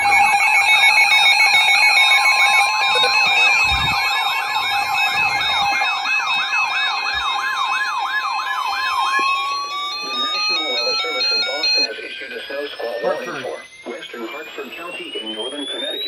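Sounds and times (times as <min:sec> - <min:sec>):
pulsed high beep: 0:00.0 - 0:07.6, 0:08.2 - 0:16.0
siren-like yelp: 0:00.0 - 0:16.0
steady alarm tones: 0:00.0 - 0:16.0.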